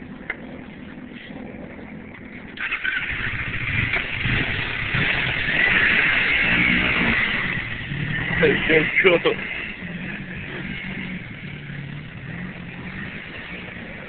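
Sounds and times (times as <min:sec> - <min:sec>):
motorcycle engine: 0:00.0 - 0:14.0
rushing wind and road noise: 0:00.0 - 0:14.0.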